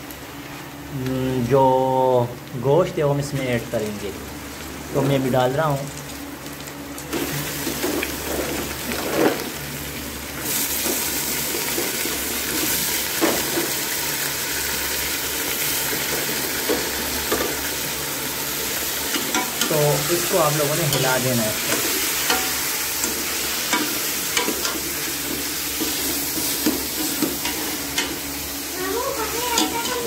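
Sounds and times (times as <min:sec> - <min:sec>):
meat sizzling in hot oil: 0:00.0 - 0:30.0.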